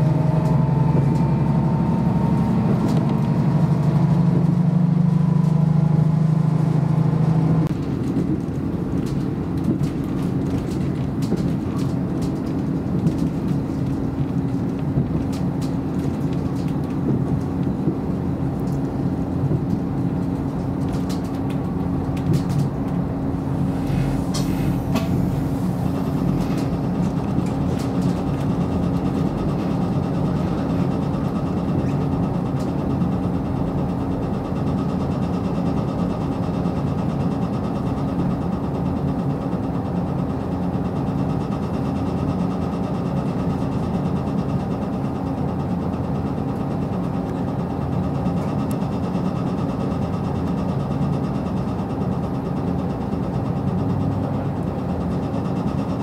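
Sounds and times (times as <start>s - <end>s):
railcar engine hum: 0.0s - 56.0s
rolling rail noise: 0.0s - 56.0s.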